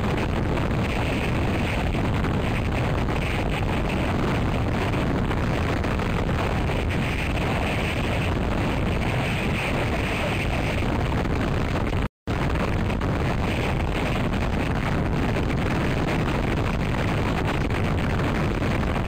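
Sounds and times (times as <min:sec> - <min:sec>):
wind buffeting microphone: 0:00.0 - 0:19.0
wind rushing through pine boughs: 0:00.0 - 0:19.0.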